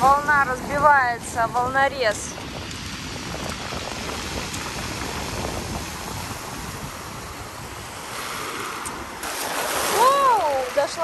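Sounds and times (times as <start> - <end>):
waves breaking: 0.0 - 11.0
wind buffeting microphone: 0.0 - 11.0.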